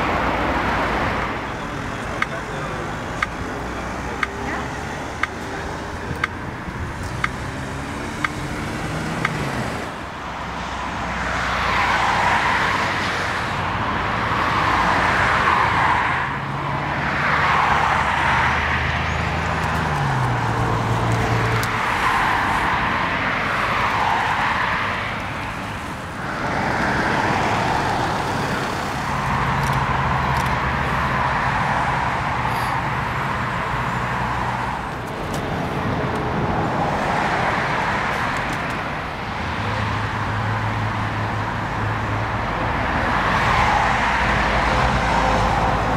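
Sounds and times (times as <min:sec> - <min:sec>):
cars passing: 0:00.0 - 0:45.9.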